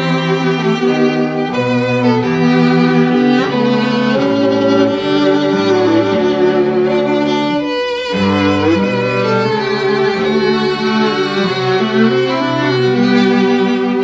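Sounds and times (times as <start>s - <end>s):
bowed strings holding notes: 0.0s - 14.0s
cello: 0.0s - 14.0s.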